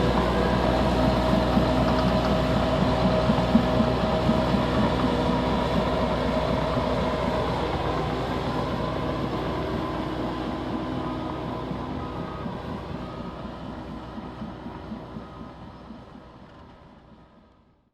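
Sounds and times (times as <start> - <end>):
bulldozer diesel engine running: 0.0 - 17.4.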